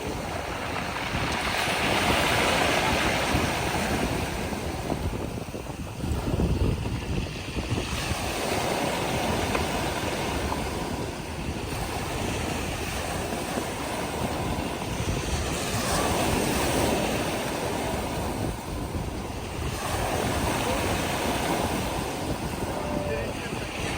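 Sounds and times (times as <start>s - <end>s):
waves breaking on beach: 0.0s - 23.9s
wind buffeting microphone: 0.0s - 23.9s.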